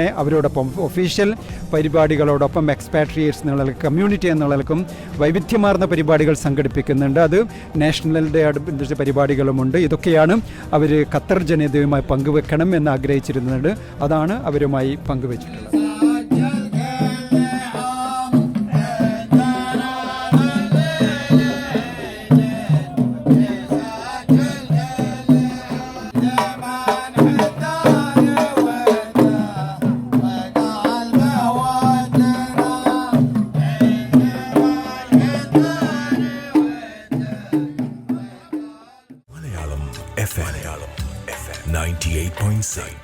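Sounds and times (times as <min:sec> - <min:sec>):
music with steady drum rhythm: 0:00.0 - 0:43.0.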